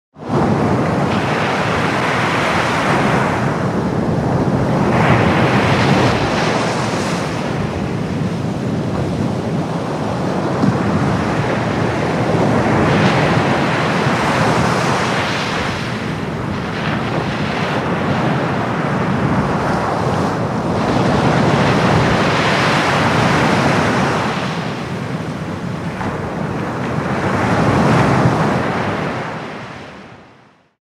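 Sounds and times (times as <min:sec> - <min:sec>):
waves breaking on a beach: 0:00.2 - 0:30.7.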